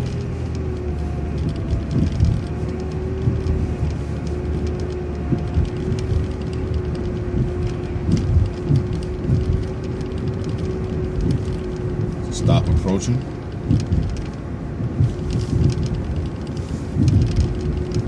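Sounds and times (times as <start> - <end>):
bus drivetrain whine: 0.0 - 18.0
bus body knocks and rattles: 0.7 - 18.0.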